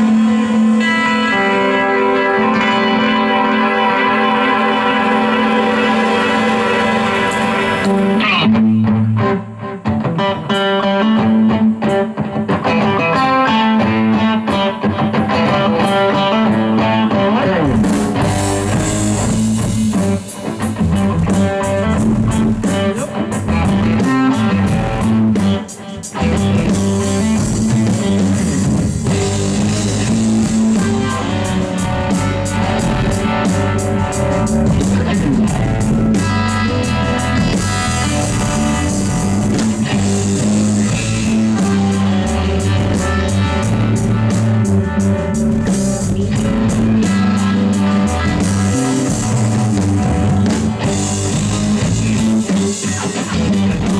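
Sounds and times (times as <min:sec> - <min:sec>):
drum kit with cymbals: 0:00.0 - 0:08.4, 0:14.5 - 0:53.9
bass guitar: 0:00.0 - 0:53.9
electric guitar: 0:00.0 - 0:53.9.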